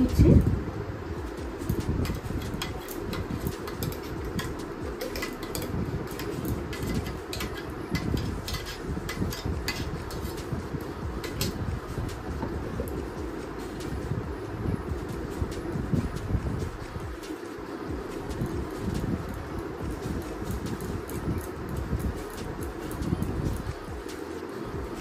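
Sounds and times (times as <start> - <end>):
steady low background noise: 0.0 - 25.0.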